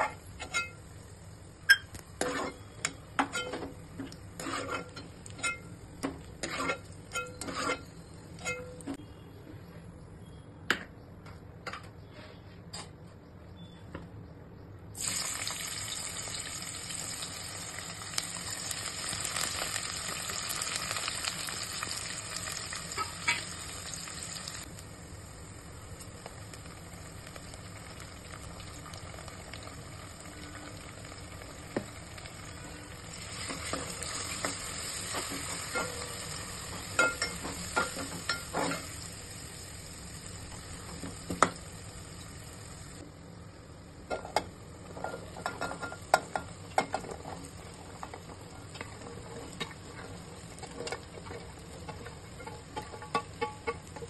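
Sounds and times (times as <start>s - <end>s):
onions sizzling in oil: 2.0s - 7.8s, 15.0s - 43.0s, 44.1s - 54.0s.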